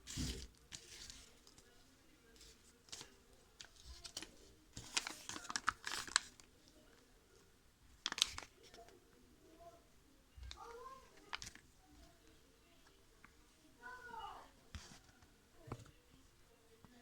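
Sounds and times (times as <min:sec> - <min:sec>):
crinkling and rustling handling noise: 0:00.0 - 0:17.0.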